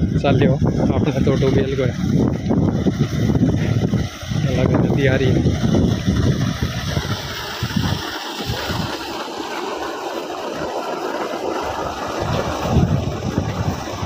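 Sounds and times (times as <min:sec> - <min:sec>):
wind on microphone: 0:00.0 - 0:09.9, 0:10.6 - 0:14.0
water rushing from well pipe: 0:00.0 - 0:14.0.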